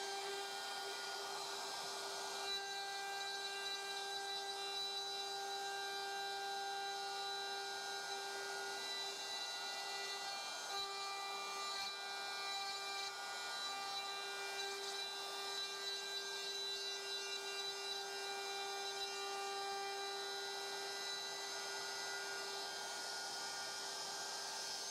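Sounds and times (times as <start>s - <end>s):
router bit rasping wood: 0.0s - 24.9s
router motor whine: 0.0s - 24.9s.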